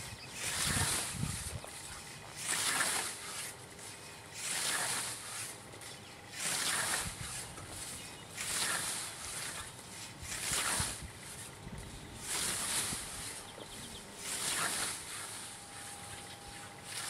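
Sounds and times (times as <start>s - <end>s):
scythe swishing through grass: 0.4s - 11.6s, 12.2s - 13.5s, 14.2s - 16.1s.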